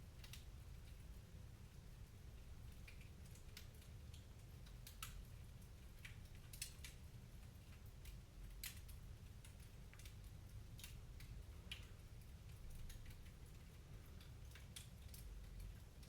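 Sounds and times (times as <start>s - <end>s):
wood fire crackling: 0.1s - 1.2s, 2.6s - 16.0s.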